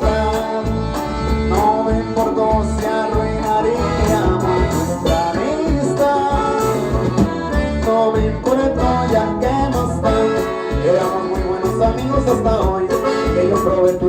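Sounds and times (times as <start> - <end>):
live band music: 0.0 - 14.0
person singing: 0.0 - 14.0
pulsing bass line: 0.0 - 14.0.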